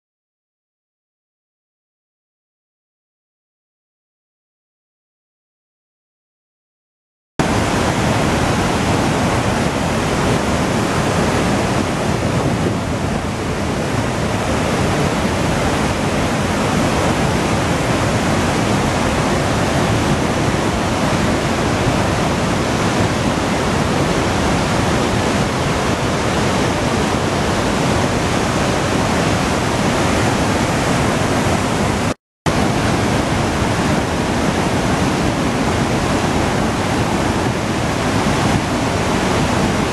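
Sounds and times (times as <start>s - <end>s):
waterfall rushing: 7.4s - 39.9s.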